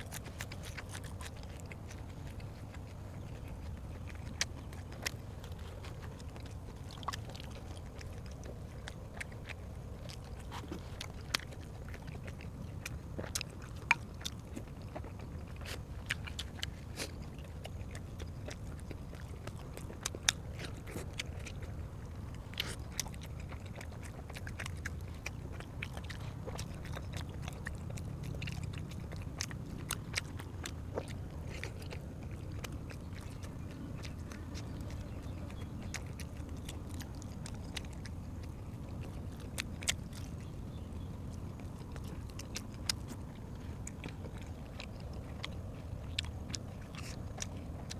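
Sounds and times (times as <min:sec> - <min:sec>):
biting and chewing: 0:00.0 - 0:47.9
low steady hum: 0:00.0 - 0:47.9
wet mouth clicks and smacks: 0:00.0 - 0:47.9.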